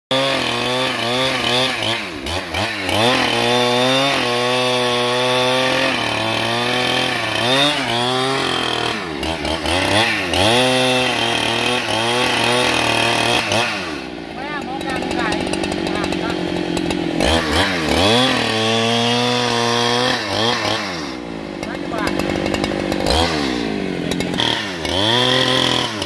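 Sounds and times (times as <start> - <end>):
chainsaw cutting log: 0.1 - 26.0.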